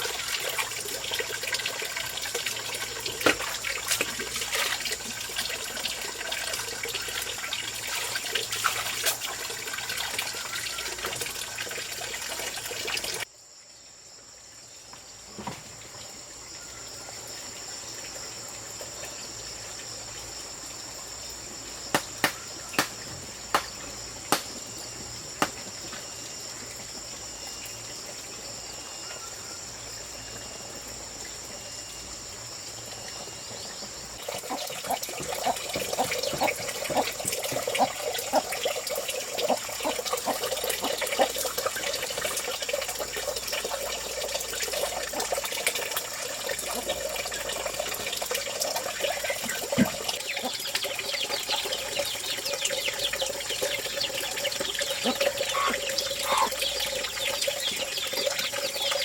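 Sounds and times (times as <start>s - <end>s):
water splashing and trickling: 0.0s - 13.3s, 14.3s - 59.0s.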